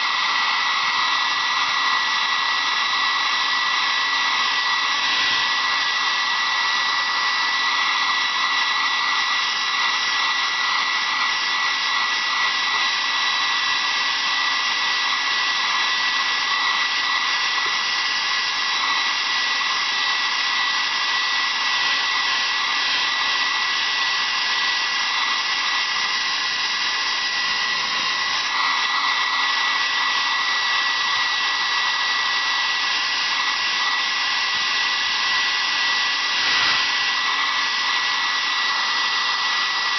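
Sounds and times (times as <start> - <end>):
blow dryer running: 0.0 - 39.9.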